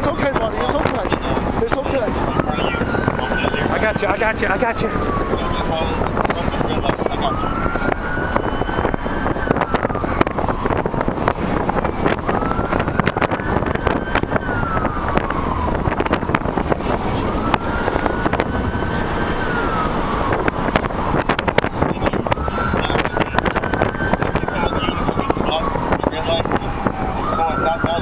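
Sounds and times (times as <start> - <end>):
police siren wailing: 0.0 - 28.0
road noise from truck: 0.0 - 28.0
wind buffeting microphone: 0.0 - 28.0.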